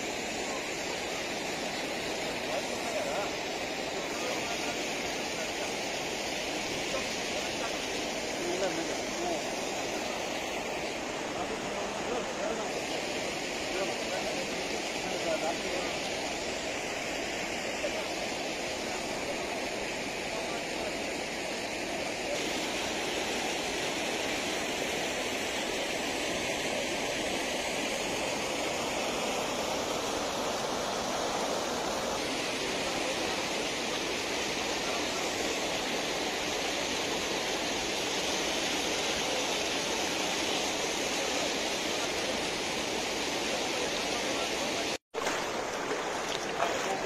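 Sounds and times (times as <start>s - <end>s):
water rushing over weir: 0.0s - 47.0s.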